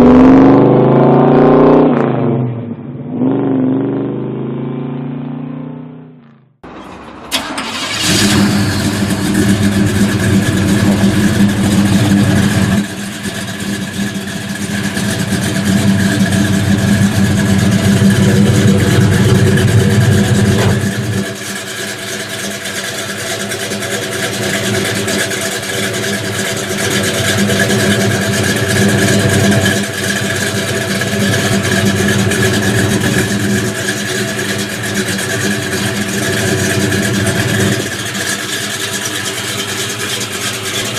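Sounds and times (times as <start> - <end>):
car engine running: 3.8 - 40.9.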